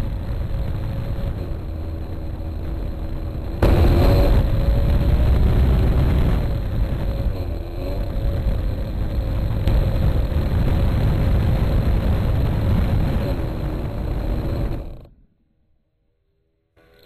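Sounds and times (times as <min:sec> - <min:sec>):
model airplane engine idling: 0:00.0 - 0:15.1.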